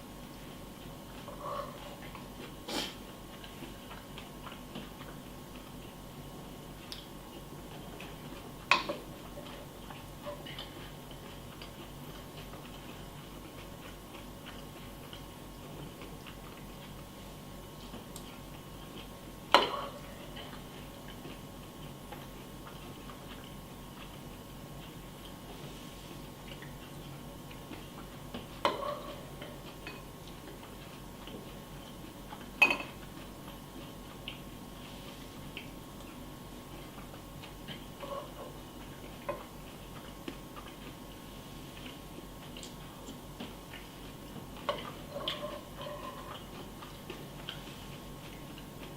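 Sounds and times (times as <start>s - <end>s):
faint electrical hum: 0.0s - 48.9s.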